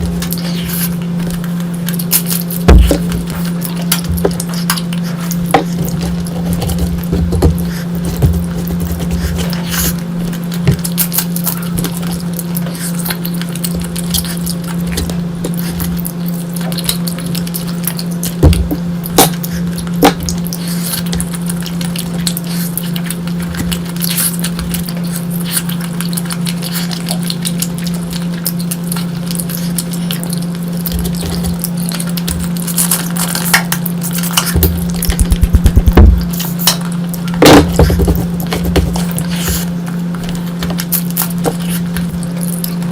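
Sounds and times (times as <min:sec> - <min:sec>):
chewing: 0:00.0 - 0:42.9
steady low hum: 0:00.0 - 0:42.9.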